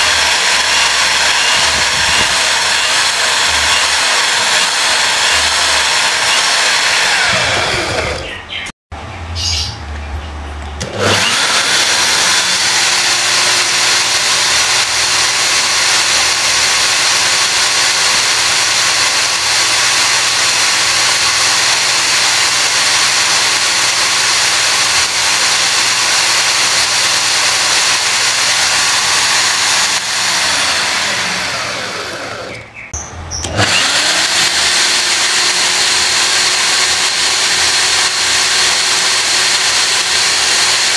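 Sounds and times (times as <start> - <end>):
electric drill whirring: 0.0 - 8.4, 10.8 - 32.7, 33.4 - 40.9.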